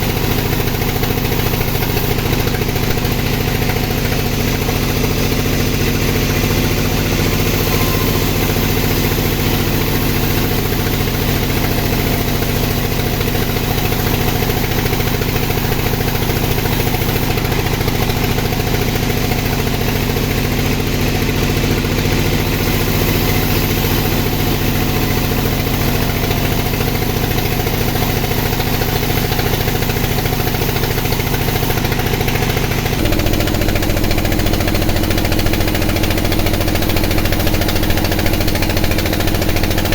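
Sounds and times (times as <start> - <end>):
sawmill sawing wood: 0.0 - 39.9.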